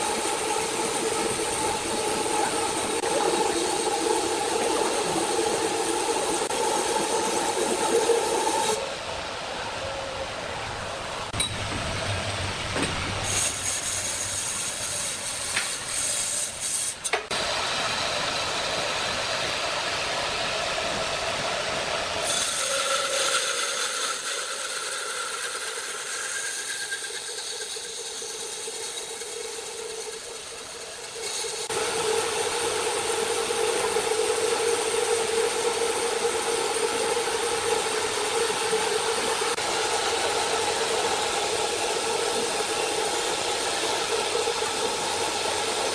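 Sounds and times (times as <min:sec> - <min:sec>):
sawmill machinery sawing wood: 0:00.0 - 0:45.9.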